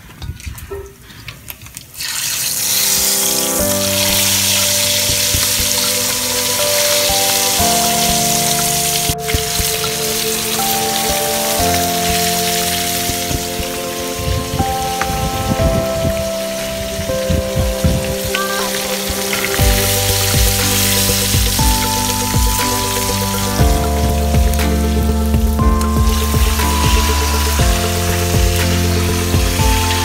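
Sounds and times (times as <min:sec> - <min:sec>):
fish sizzling in hot oil: 0:02.0 - 0:15.4, 0:16.1 - 0:30.0
background music with sustained chords: 0:02.6 - 0:30.0.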